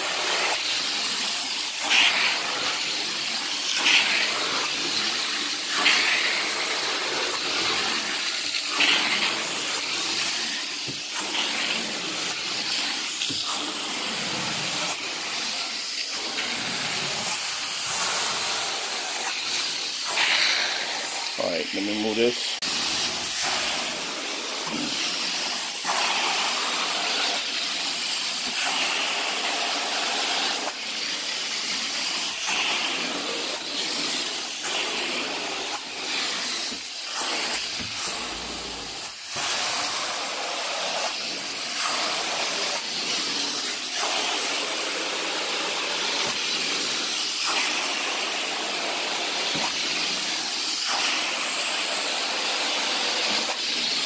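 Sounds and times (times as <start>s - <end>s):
carpet extraction wand hissing: 0.0s - 54.0s.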